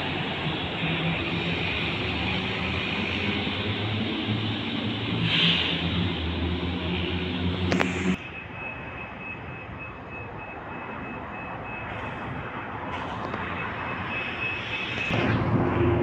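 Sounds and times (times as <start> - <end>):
diesel bus engine: 0.0 - 16.0
traffic noise: 0.0 - 16.0.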